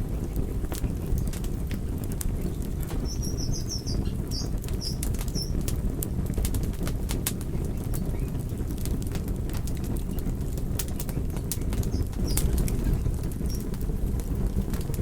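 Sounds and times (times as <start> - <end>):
low burning rumble: 0.0 - 15.0
wood fire crackling and popping: 0.0 - 15.0.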